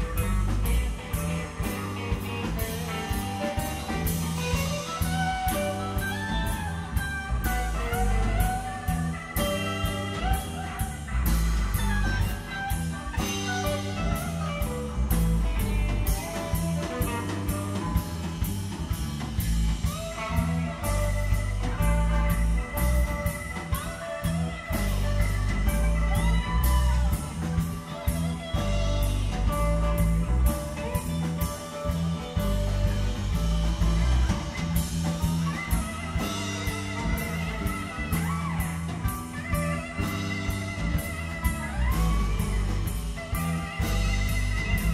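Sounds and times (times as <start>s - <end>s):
bass guitar: 0.0s - 44.9s
drum kit steady beat: 0.0s - 44.9s
electric guitar with bent notes: 0.0s - 44.9s.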